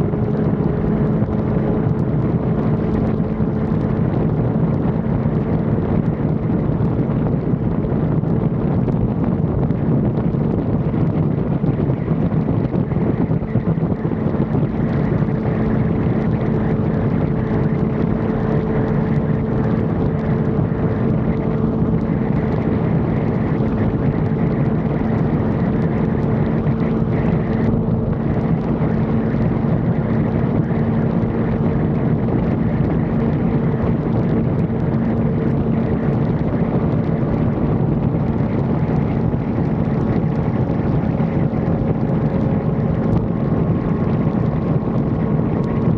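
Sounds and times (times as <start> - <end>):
motorcycle engine running steadily: 0.0 - 45.9
wind rushing over microphone: 0.0 - 45.9.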